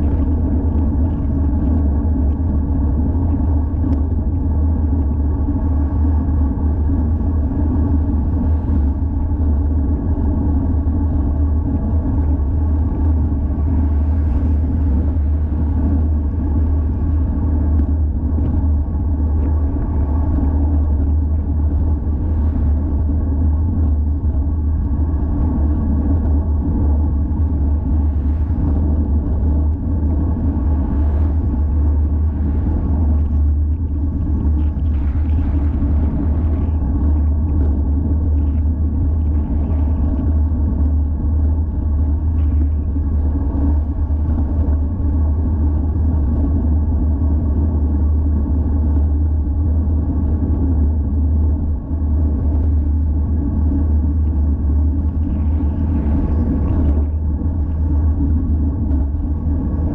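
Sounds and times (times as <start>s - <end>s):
wind rumble: 0.0s - 59.9s.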